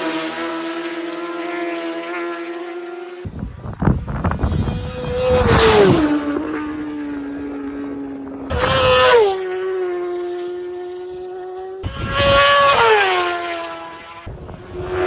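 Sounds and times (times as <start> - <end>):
racing motorbikes passing: 0.0 - 15.0.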